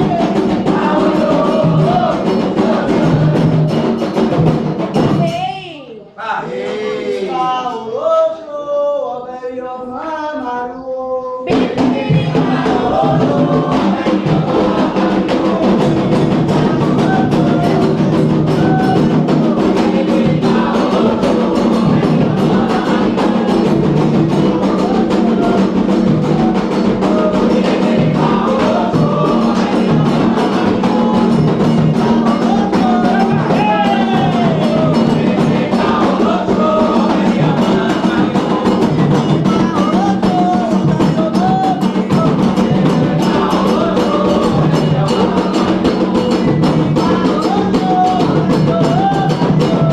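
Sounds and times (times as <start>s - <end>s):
chorus of voices singing: 0.0s - 5.3s, 6.1s - 49.9s
hand drums: 0.0s - 5.8s, 11.4s - 49.9s.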